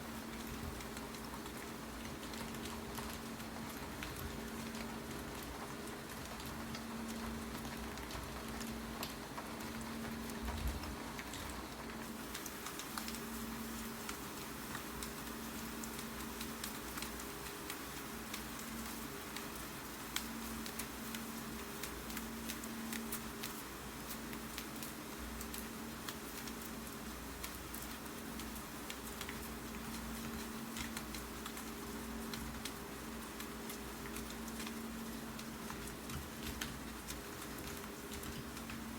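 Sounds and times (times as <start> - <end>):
faint steady hum: 0.0 - 38.9
steady rain: 0.0 - 38.9.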